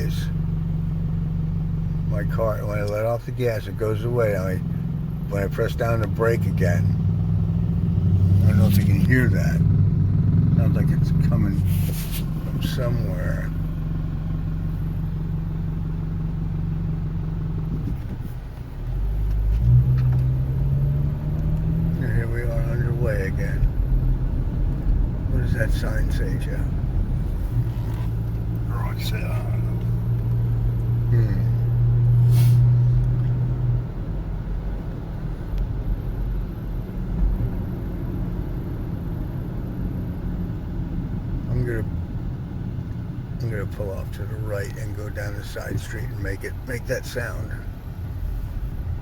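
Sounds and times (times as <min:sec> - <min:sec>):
car engine rattling idle: 0:00.0 - 0:20.7, 0:21.6 - 0:49.0
car pulling off: 0:00.0 - 0:49.0
low road rumble: 0:00.0 - 0:49.0.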